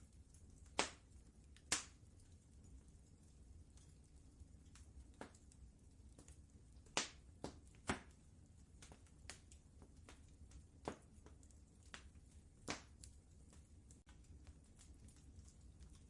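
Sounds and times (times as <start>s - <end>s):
faint low rumble: 0.0s - 16.0s
wood fire crackling: 0.0s - 16.0s.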